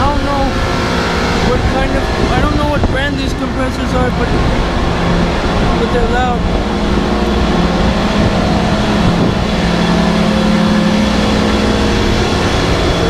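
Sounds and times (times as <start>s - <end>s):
chiller low hum: 0.0s - 13.0s
fan noise: 0.0s - 13.0s.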